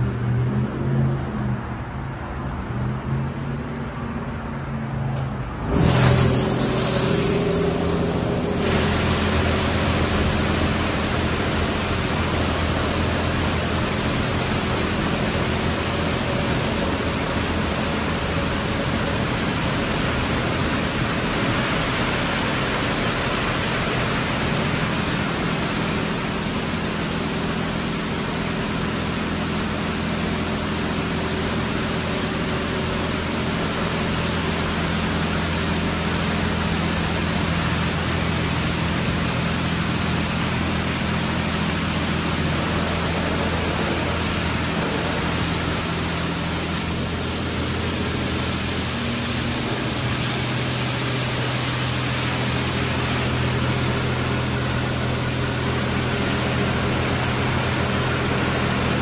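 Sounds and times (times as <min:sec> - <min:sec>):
car wash rushing noise: 0:00.0 - 0:59.0.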